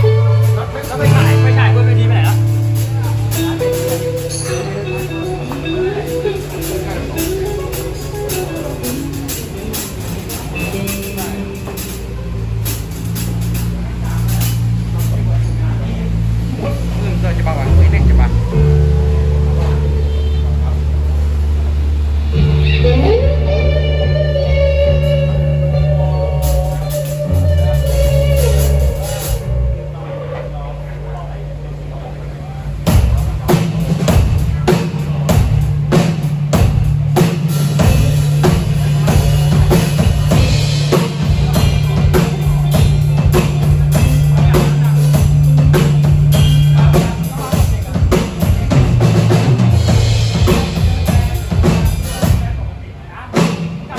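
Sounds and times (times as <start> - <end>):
electric guitar held note bending: 0.0 - 15.0, 16.1 - 51.7
drum kit steady beat: 0.0 - 53.9
sustained bass notes: 0.0 - 53.9.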